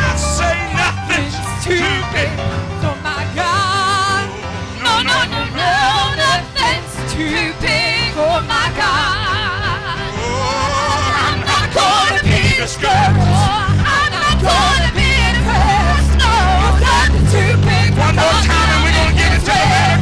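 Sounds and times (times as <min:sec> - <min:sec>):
gospel band playing: 0:00.0 - 0:20.0
singers with heavy vibrato: 0:02.8 - 0:20.0.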